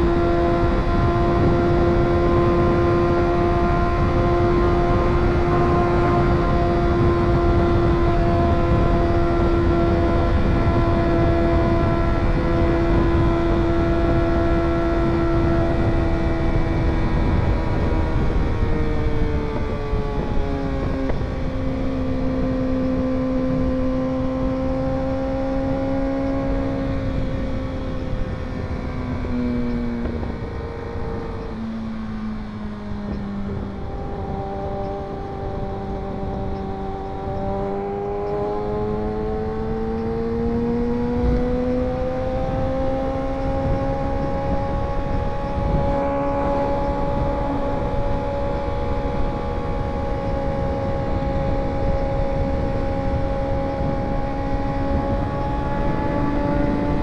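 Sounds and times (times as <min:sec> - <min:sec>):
low wind rumble: 0:00.0 - 0:57.0
motorcycle engine running: 0:00.0 - 0:57.0.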